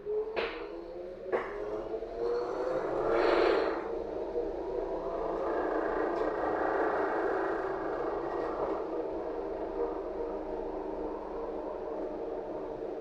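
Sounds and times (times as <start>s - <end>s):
trolleybus cabin rumble: 0.0s - 13.0s.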